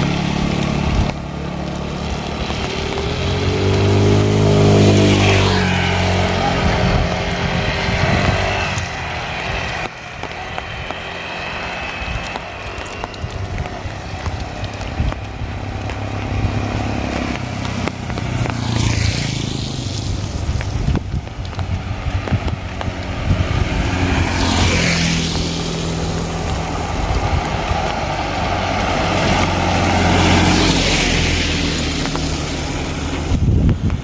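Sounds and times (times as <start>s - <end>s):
tyres hissing on wet road: 0.0s - 34.0s.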